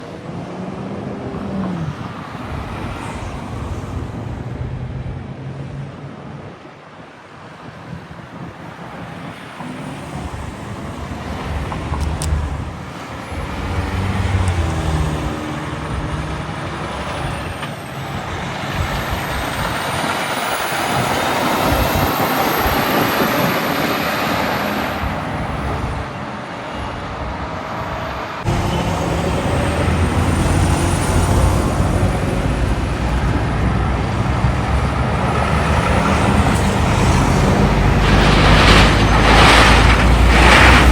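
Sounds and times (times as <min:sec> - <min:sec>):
trucks driving past: 0:07.9 - 0:40.9.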